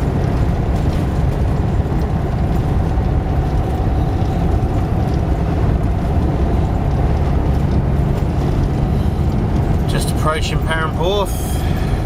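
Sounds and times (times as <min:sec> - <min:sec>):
engine and road noise in cab: 0:00.0 - 0:12.0.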